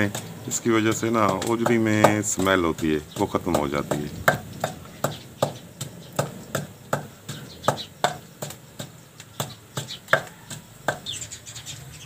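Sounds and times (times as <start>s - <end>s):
pestle pounding in clay mortar: 0.0s - 11.4s.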